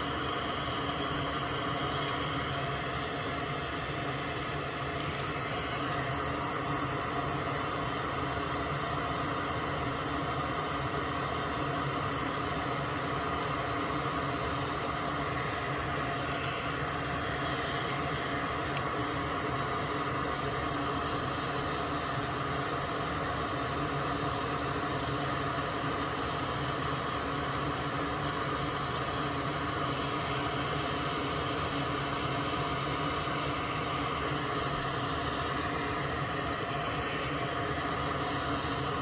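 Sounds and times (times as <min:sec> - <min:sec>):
small electric fan whirring: 0:00.0 - 0:39.0.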